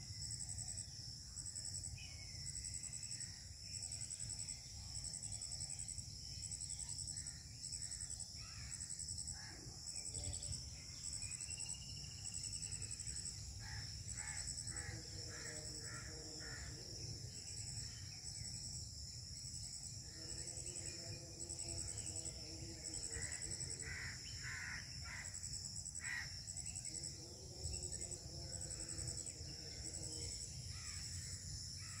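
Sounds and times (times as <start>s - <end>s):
insect chirring: 0.0s - 32.0s.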